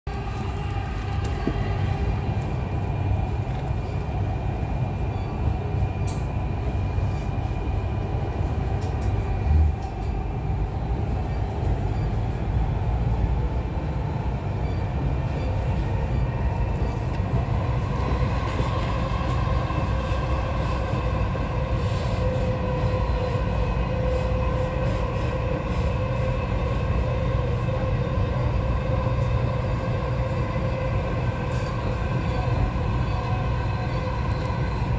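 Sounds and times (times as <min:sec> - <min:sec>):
train running rumble: 0:00.1 - 0:34.9.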